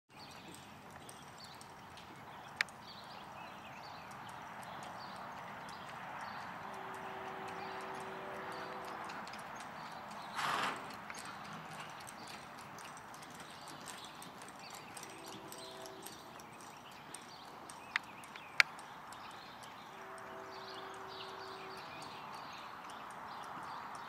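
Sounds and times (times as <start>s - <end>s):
horse hoofbeats on soft dirt: 0.1s - 22.6s.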